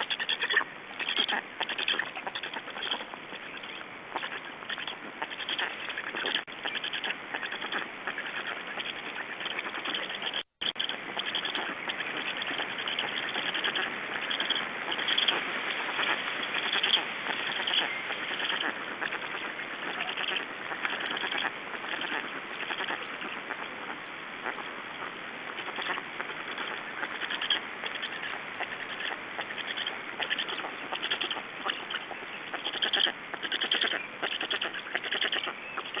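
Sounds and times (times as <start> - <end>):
stork nestlings begging calls: 0.0 - 23.6, 25.6 - 36.0.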